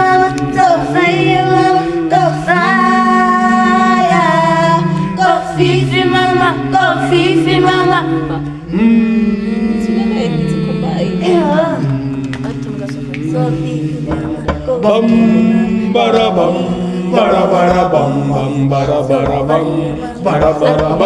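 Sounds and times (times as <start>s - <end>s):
a cappella group singing harmony: 0.0s - 21.0s.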